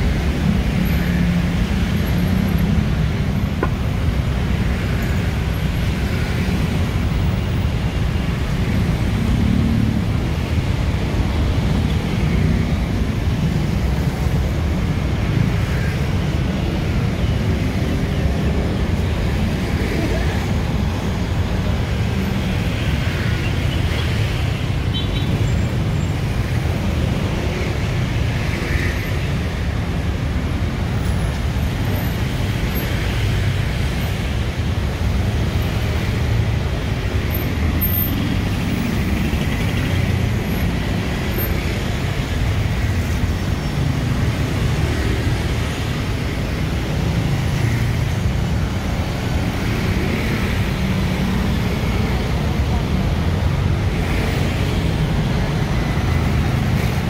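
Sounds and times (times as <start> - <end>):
dense road traffic rumble: 0.0 - 57.0.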